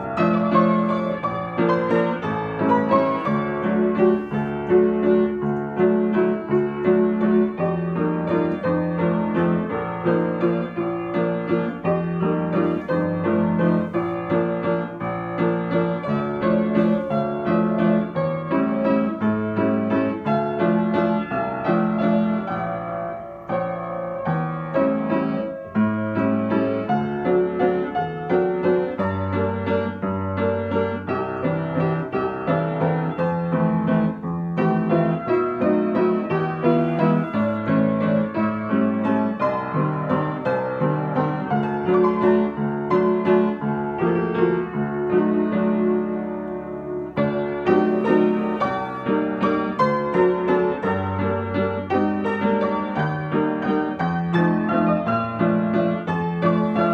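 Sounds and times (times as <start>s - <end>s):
solo piano piece: 0.0s - 56.9s.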